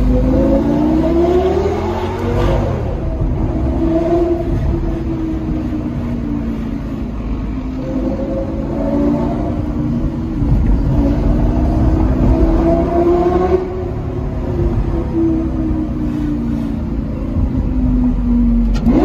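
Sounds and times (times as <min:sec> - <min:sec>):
sports car engine from cabin: 0:00.0 - 0:19.0.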